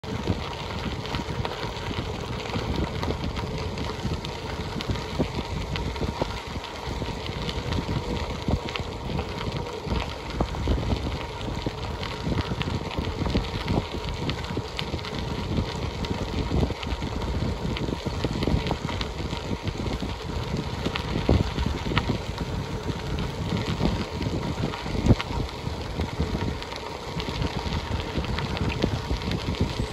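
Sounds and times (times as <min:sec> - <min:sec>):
bicycle tyres rumbling on gravel: 0:00.0 - 0:29.9.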